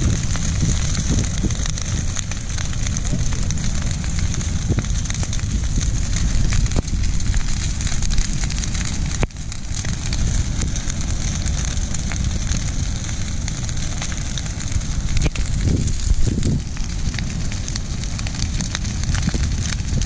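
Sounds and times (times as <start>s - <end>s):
brush pile fire crackling: 0.0s - 20.0s
fire popping: 0.0s - 20.0s
low fire rumble: 0.0s - 20.0s.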